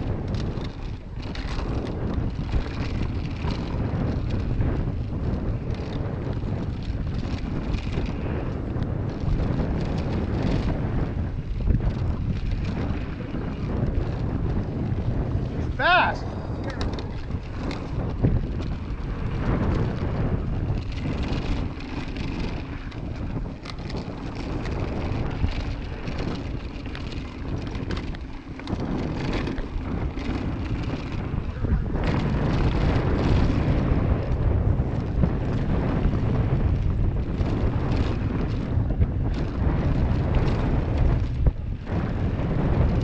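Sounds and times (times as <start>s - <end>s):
bike rattling and knocking: 0.0s - 43.0s
wind rushing over microphone: 0.0s - 43.0s.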